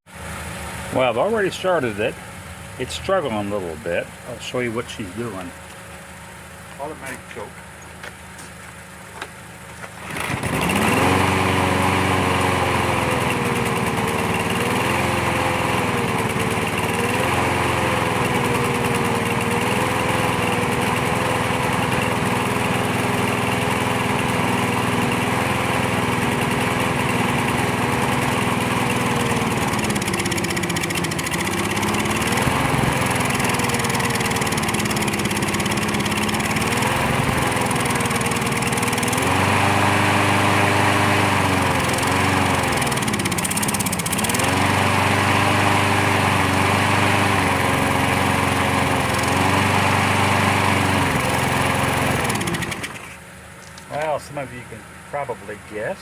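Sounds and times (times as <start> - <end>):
lawn mower engine running: 0.1 - 56.0.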